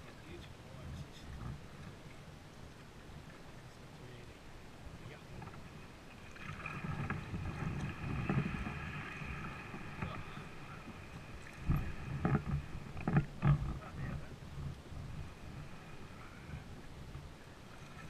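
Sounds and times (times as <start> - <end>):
kayak paddle strokes: 1.0 - 18.0.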